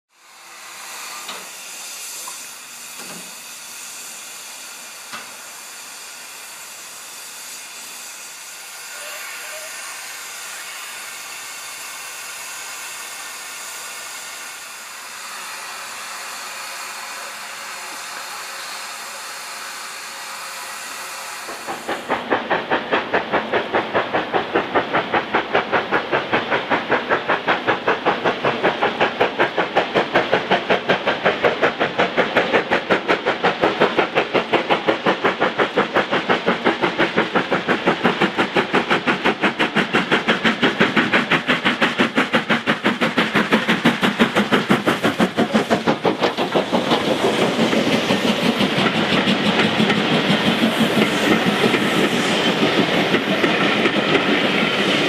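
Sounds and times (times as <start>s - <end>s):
steam engine exhaust beats: 0.1s - 55.0s
steam hissing: 0.1s - 55.0s.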